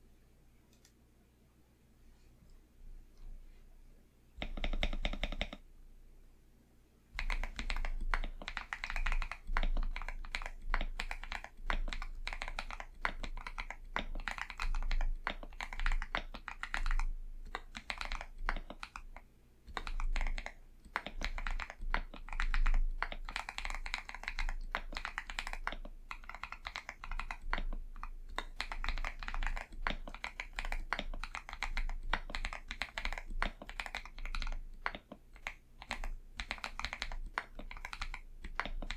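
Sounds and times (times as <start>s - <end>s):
fast typing on mechanical keyboard: 4.4s - 5.6s, 7.2s - 38.9s.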